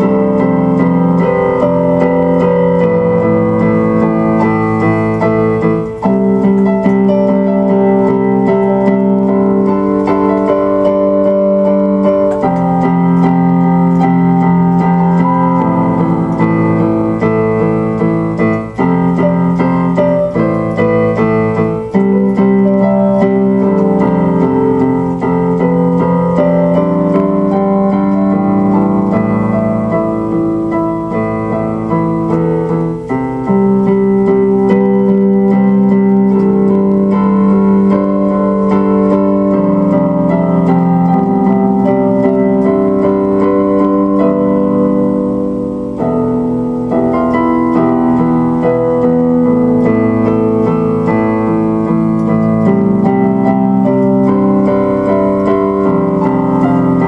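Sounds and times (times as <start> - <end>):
electric piano chords: 0.0 - 57.0.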